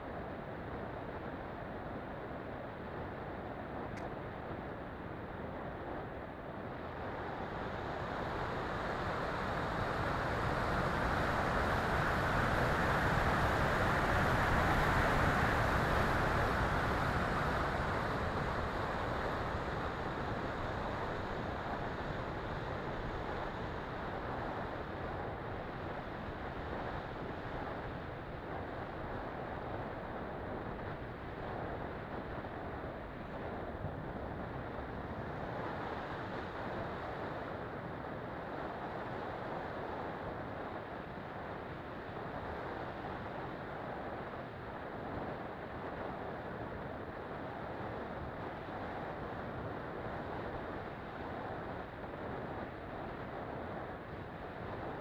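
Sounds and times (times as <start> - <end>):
wind rushing over microphone: 5.6 - 55.0.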